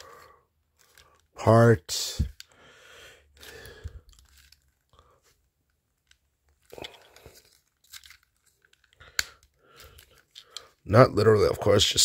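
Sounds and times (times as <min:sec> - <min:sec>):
plastic toy parts clicking and scraping: 0:00.0 - 0:02.6, 0:03.3 - 0:10.9.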